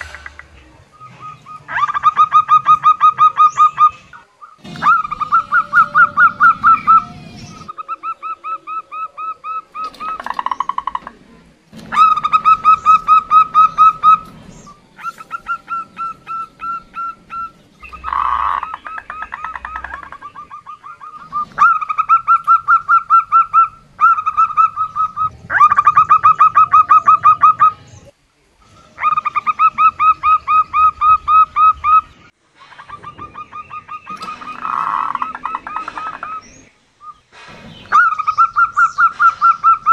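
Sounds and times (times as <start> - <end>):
dove giving staccato calls: 0.0 - 27.8, 29.0 - 39.9.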